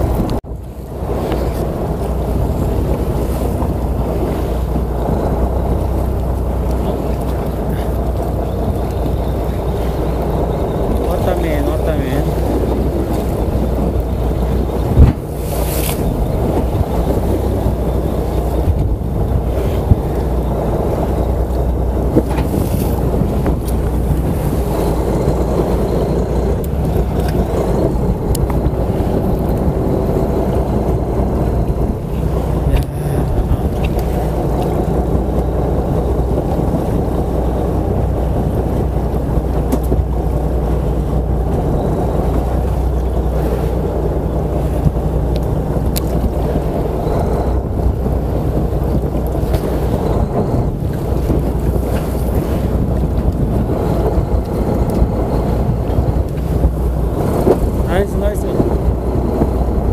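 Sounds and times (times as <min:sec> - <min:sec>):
boat engine humming: 0:00.0 - 0:59.9
wind noise: 0:00.0 - 0:59.9.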